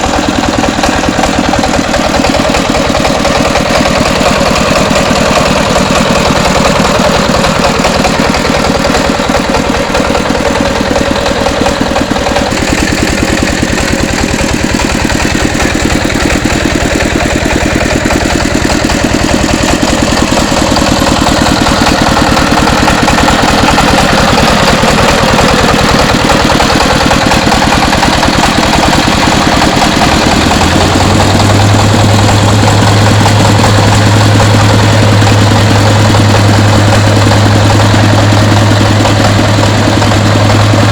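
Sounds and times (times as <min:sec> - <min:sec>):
rice huller engine running: 0:00.0 - 0:40.9.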